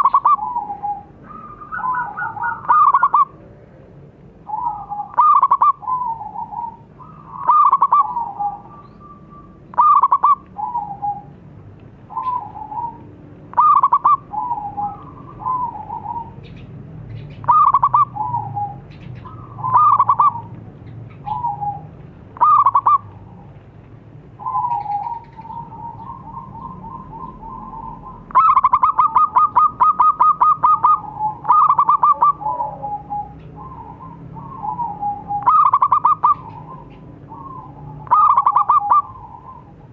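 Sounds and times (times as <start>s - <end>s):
dove rattling notes: 0.0s - 3.4s, 4.5s - 11.4s, 12.0s - 39.9s
dove cooing: 0.0s - 3.6s, 4.4s - 11.4s, 12.0s - 23.6s, 24.4s - 39.9s.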